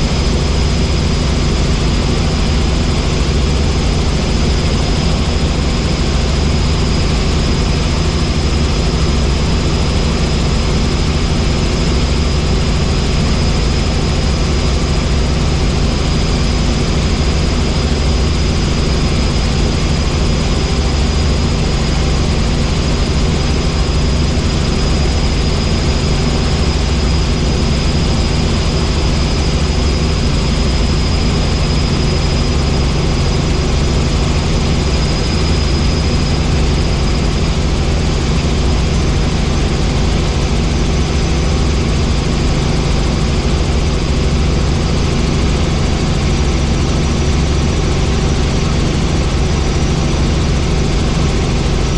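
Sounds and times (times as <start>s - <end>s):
helicopter rotor and engine drone: 0.0s - 51.9s
high whine: 0.0s - 51.9s.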